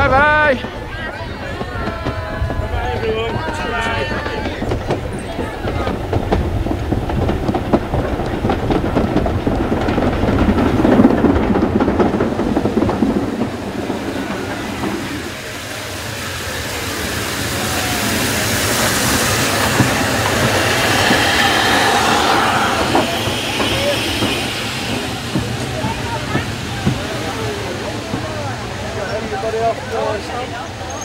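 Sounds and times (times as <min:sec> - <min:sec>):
steam locomotive passing: 0:00.0 - 0:31.0
train wheels clacking on rails: 0:00.0 - 0:31.0.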